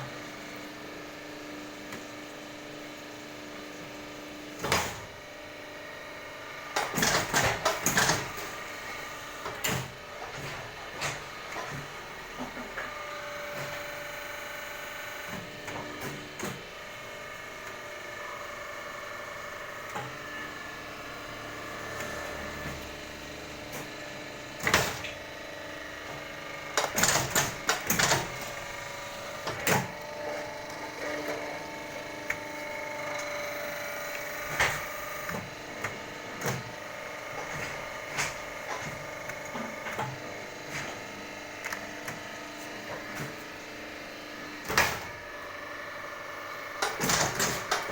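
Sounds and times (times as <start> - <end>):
machine motor hum: 0.0 - 47.9.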